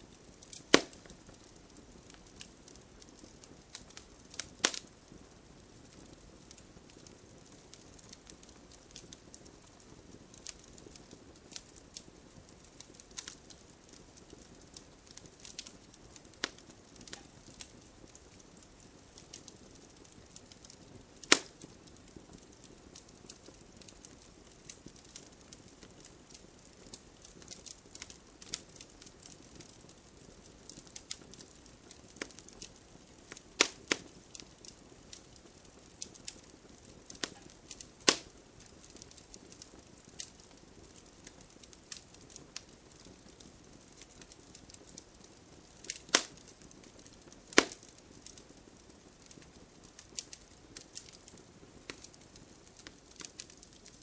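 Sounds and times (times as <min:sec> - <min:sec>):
soft steady hiss: 0:00.0 - 0:54.0
wood fire crackling and popping: 0:00.0 - 0:54.0.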